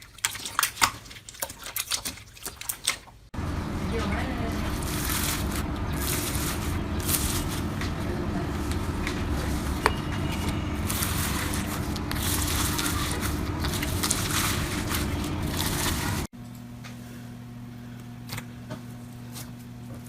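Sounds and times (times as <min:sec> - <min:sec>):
steady low hum: 0:03.4 - 0:20.0.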